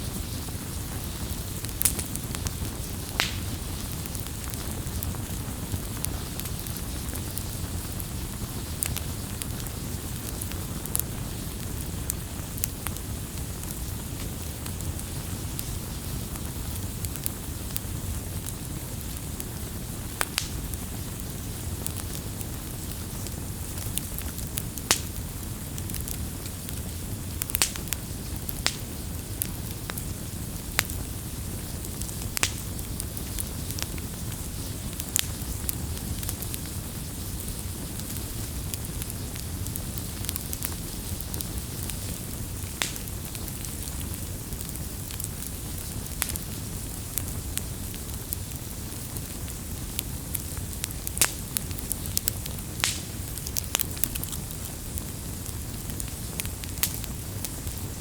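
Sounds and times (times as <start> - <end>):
low rumble of flames: 0.0 - 58.0
wood crackling and popping: 0.0 - 58.0.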